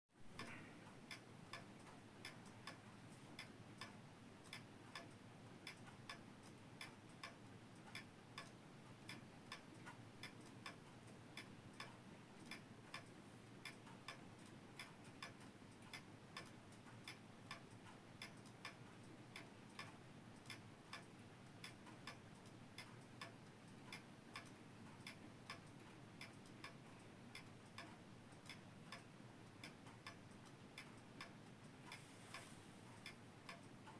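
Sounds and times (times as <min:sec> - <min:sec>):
pendulum clock ticking: 0:00.2 - 0:33.9.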